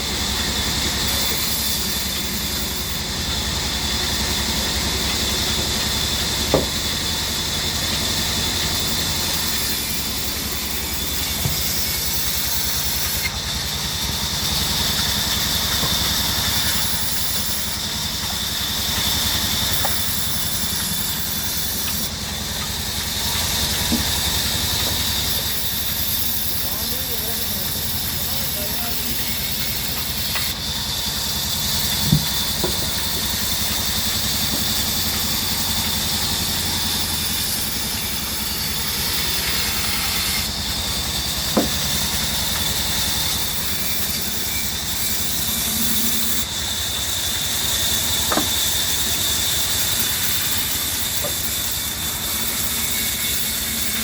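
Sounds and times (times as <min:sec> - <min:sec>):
band saw running: 0:00.0 - 0:54.0.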